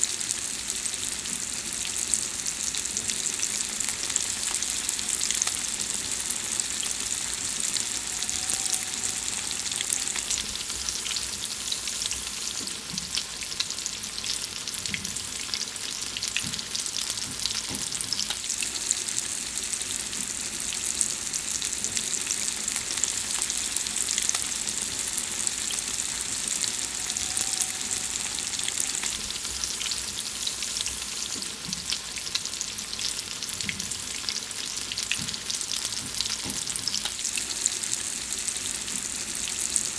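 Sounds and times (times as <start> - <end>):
food frying sizzle: 0.0 - 39.9.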